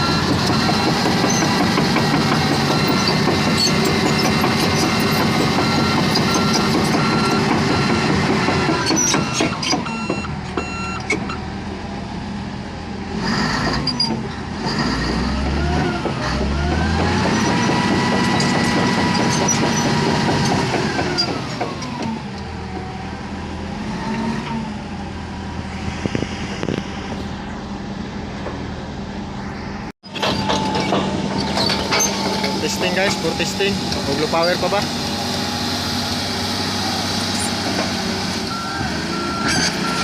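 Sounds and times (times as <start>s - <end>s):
bulldozer diesel engine revving: 0.0s - 40.0s.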